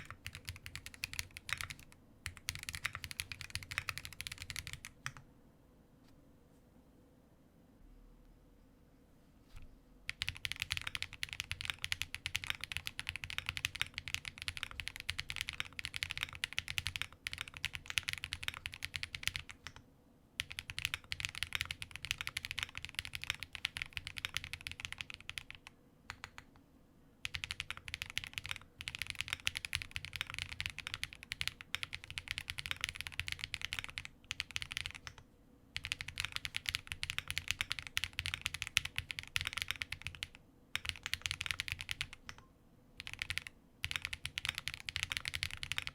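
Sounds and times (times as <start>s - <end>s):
fast mechanical keyboard typing: 0.0s - 5.2s, 10.1s - 19.8s, 20.4s - 26.5s, 27.2s - 35.2s, 35.8s - 42.4s, 43.0s - 45.9s.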